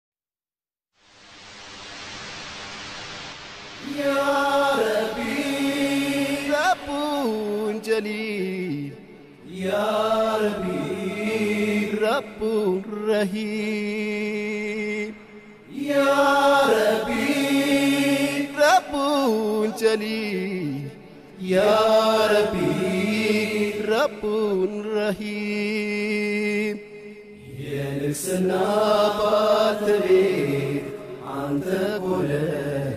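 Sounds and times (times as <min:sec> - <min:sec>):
a cappella vocal chant: 0:03.8 - 0:32.9.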